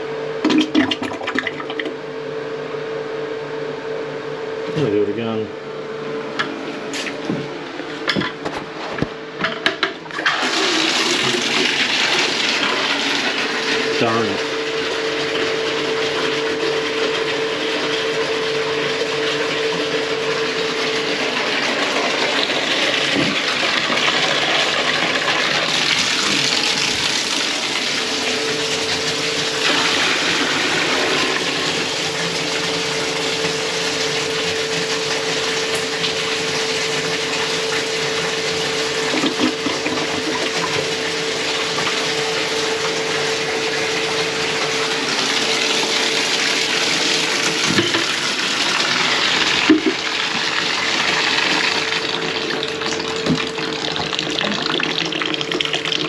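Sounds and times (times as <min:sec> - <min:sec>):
water running: 0:10.2 - 0:56.0.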